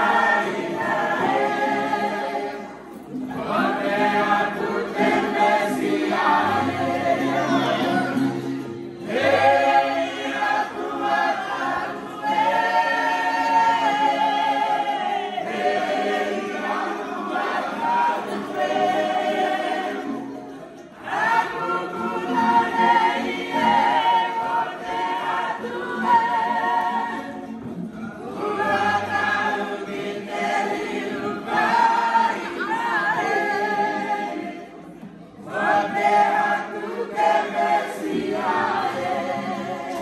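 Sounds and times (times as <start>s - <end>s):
group singing in harmony: 0.0s - 40.0s
strummed ukuleles and guitars: 0.0s - 40.0s.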